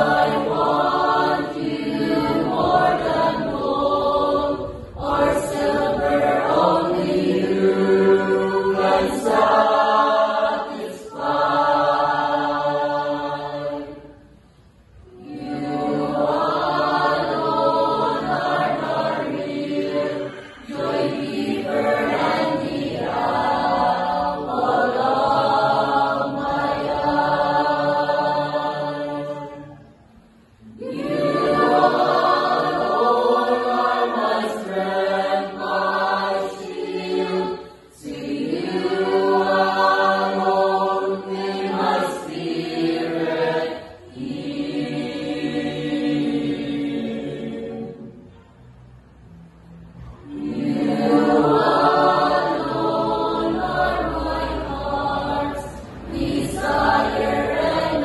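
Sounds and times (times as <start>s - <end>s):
church choir singing: 0.0s - 58.0s.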